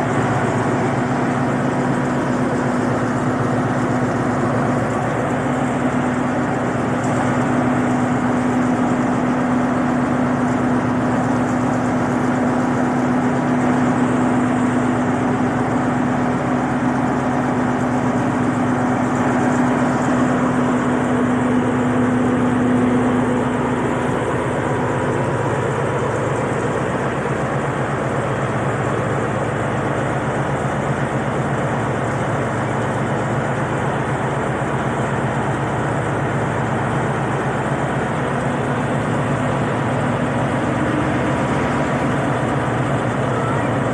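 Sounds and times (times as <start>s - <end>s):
diesel locomotive idling: 0.0s - 43.9s
steady hum: 0.0s - 43.9s.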